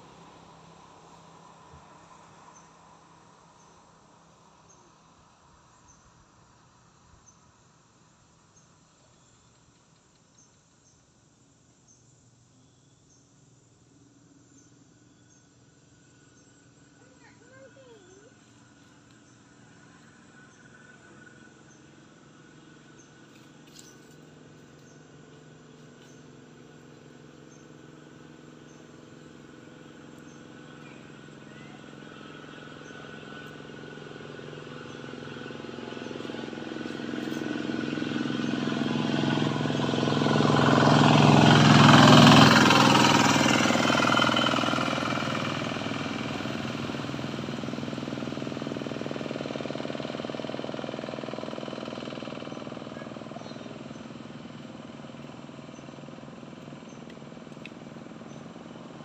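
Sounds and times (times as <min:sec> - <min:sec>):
vehicle engine driving past: 0:00.0 - 0:06.0, 0:14.6 - 0:59.0.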